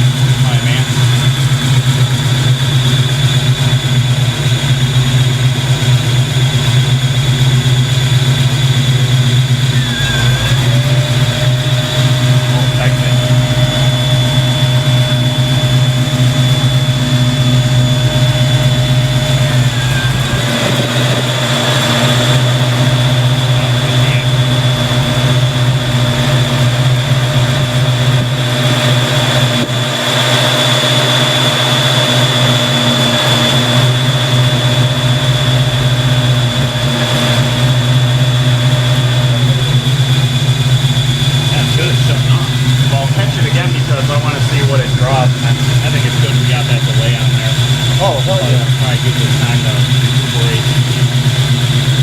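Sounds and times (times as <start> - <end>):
car engine idling: 0.0 - 52.0
radiator fans whining: 0.0 - 52.0.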